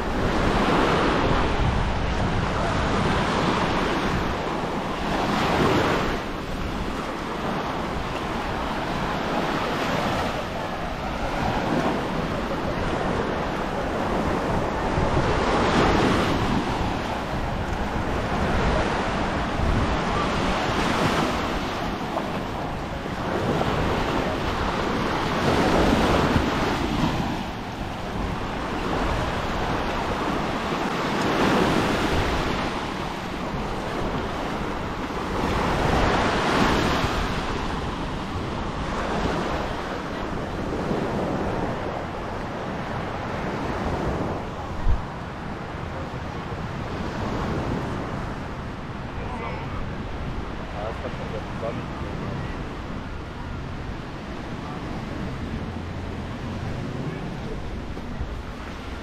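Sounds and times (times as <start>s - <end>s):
waves washing onto sand: 0.0s - 59.0s
wind rumbling on microphone: 0.0s - 59.0s.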